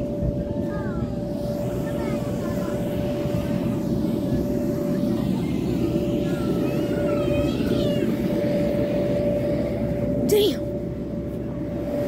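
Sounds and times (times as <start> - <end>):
aircraft engines droning overhead: 0.0 - 12.0
faint wavering high-pitched sounds: 0.0 - 12.0.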